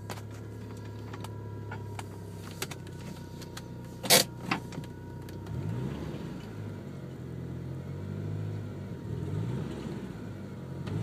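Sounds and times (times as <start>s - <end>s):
car engine sputtering: 0.0s - 9.0s.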